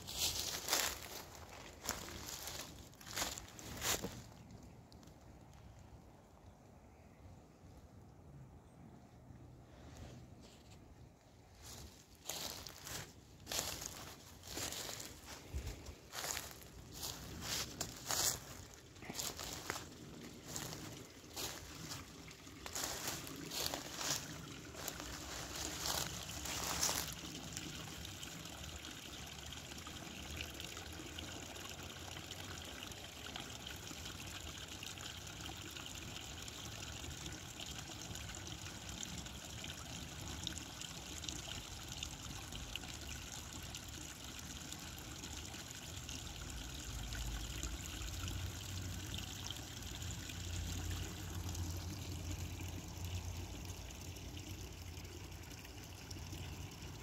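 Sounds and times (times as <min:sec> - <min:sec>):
creek water trickling: 0:00.0 - 0:57.0.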